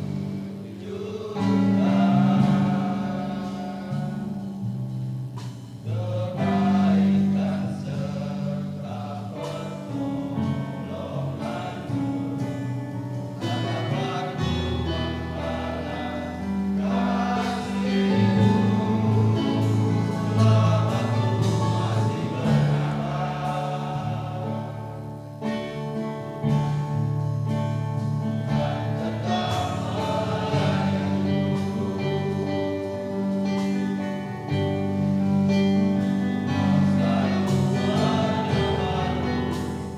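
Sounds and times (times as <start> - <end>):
instrumental accompaniment: 0.0 - 39.9
men's choir singing gospel: 0.0 - 39.9.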